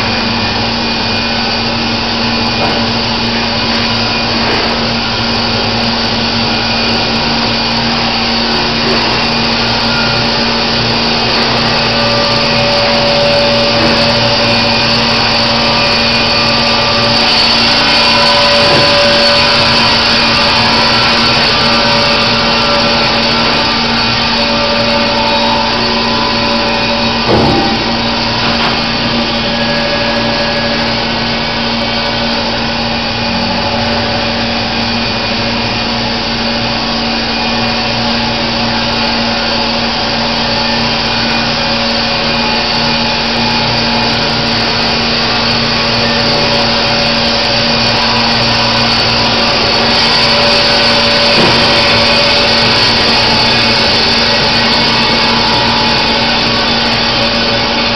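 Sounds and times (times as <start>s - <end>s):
band sawmill sawing log: 0.0s - 57.9s.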